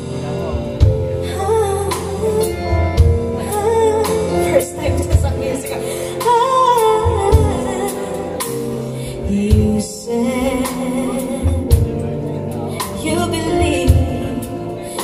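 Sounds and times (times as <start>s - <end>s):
instrumental backing: 0.0s - 15.0s
woman singing into a microphone: 1.0s - 15.0s.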